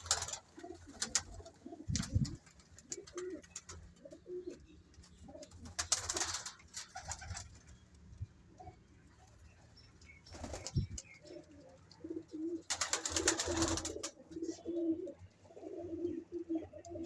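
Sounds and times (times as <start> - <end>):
pigeons cooing: 0.0 - 7.5, 10.3 - 17.0.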